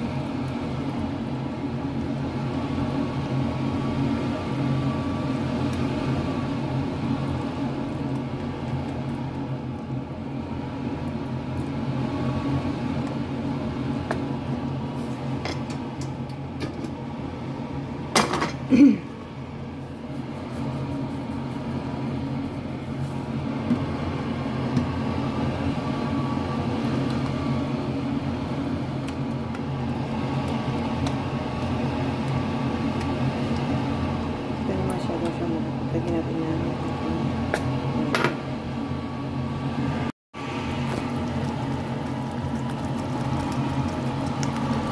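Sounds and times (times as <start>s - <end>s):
appliance hum: 0.0s - 44.9s.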